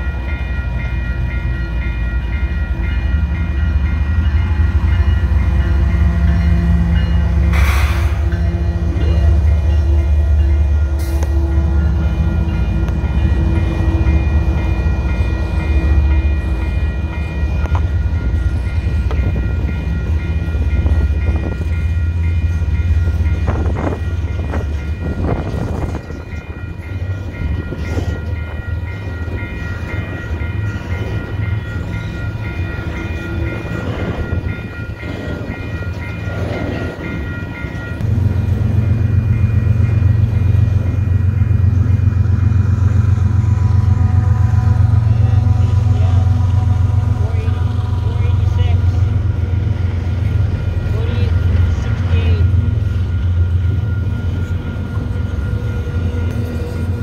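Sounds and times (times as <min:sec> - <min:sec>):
crossing warning bell ringing: 0:00.0 - 0:57.0
freight train rumble: 0:00.0 - 0:57.0.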